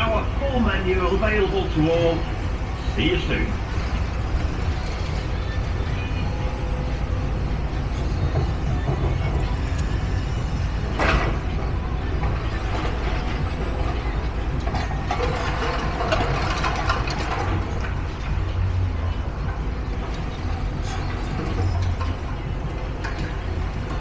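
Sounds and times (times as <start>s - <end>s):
diesel engines rumbling: 0.0s - 24.0s
rattling clattering noise: 0.9s - 24.0s.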